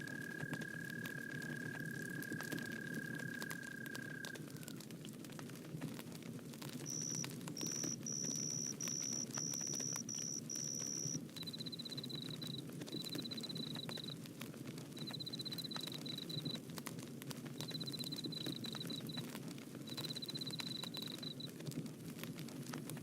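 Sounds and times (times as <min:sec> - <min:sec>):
bonfire crackling: 0:00.0 - 0:23.0.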